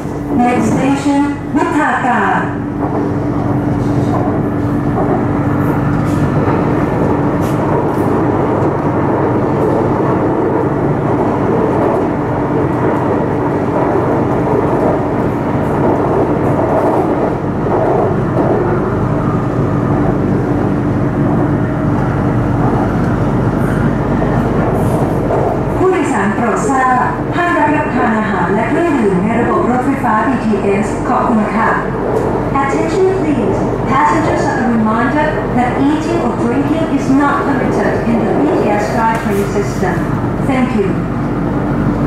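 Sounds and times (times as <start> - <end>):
constant hum: 0.0 - 42.0
train wheels rumbling on track: 0.0 - 42.0.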